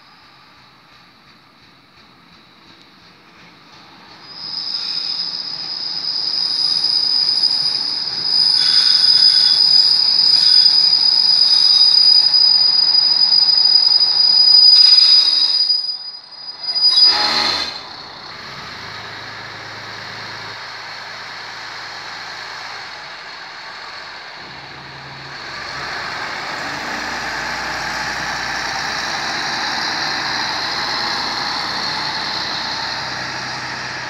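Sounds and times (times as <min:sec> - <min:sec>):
train wheels squealing: 0:00.0 - 0:34.0.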